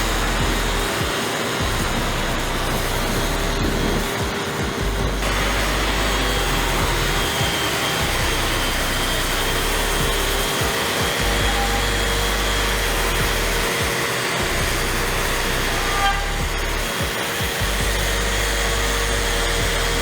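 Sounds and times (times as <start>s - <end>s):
orbital sander on wood: 0.0s - 20.0s.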